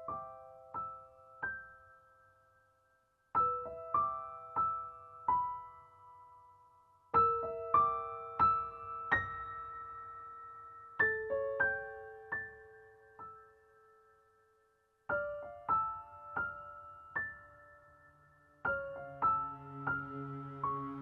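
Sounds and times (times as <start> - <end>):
slow sparse piano melody: 0.0 - 21.0.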